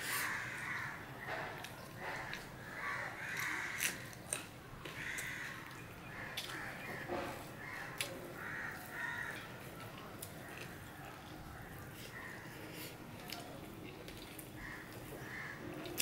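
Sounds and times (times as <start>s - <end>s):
fingers squishing rice and curry: 0.0s - 16.0s.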